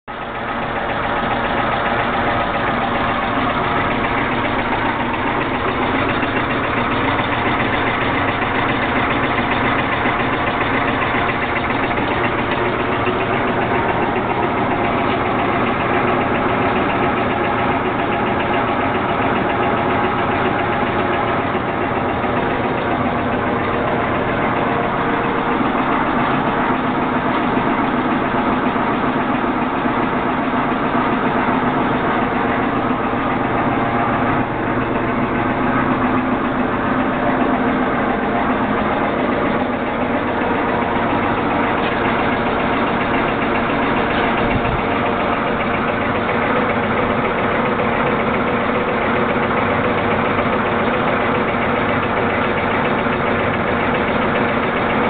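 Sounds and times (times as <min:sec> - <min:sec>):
shaker machine rattling and humming: 0:00.4 - 0:55.0.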